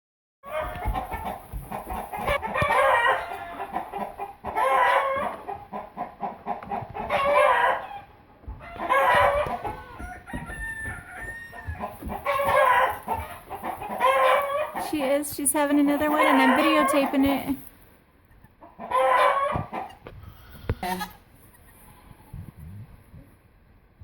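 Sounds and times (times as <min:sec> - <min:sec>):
farm animal calls: 0:00.5 - 0:17.6, 0:18.5 - 0:22.4.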